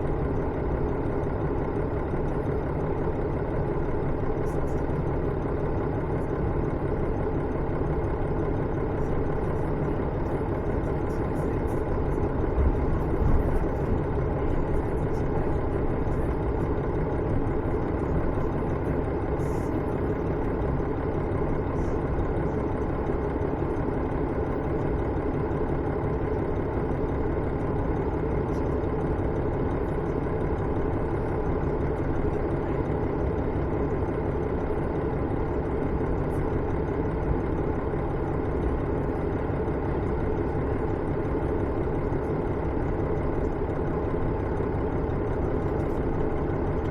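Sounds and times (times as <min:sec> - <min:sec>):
diesel engine drone: 0:00.0 - 0:46.9.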